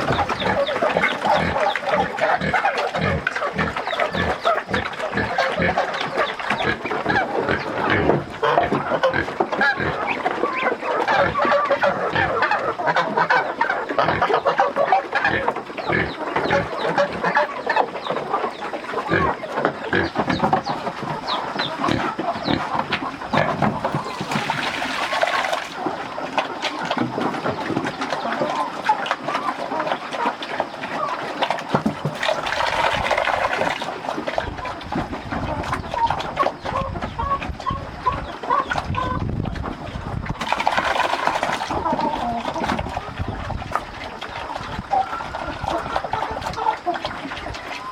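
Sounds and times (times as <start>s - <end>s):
poultry clucking: 0.0s - 47.9s.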